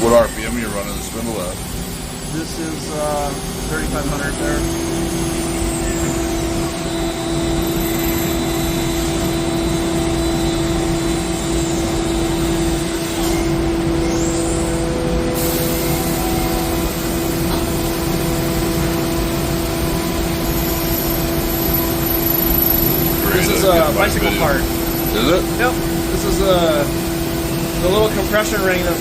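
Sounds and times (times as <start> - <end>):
lathe machine humming and whining: 0.0 - 29.0.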